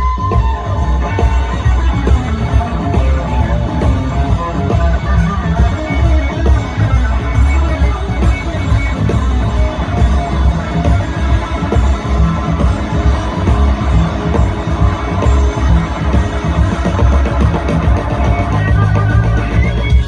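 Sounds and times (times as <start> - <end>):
blues band playing: 0.0 - 20.0
electric guitar leading: 0.0 - 20.0.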